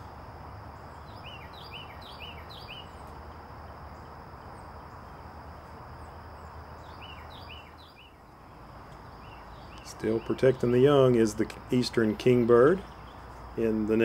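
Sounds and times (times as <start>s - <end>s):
background hiss: 0.0s - 14.0s
small bird chirping: 0.8s - 14.0s.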